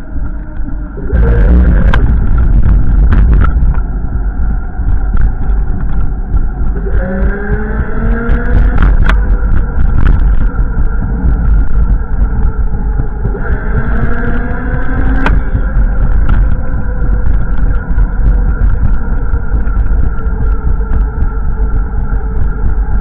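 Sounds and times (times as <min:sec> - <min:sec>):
rising tone: 0:00.0 - 0:23.0
wind buffeting microphone: 0:00.0 - 0:23.0.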